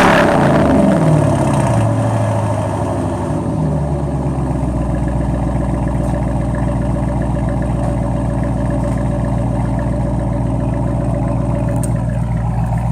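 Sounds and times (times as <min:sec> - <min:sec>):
car exhaust idling: 0:00.0 - 0:12.9.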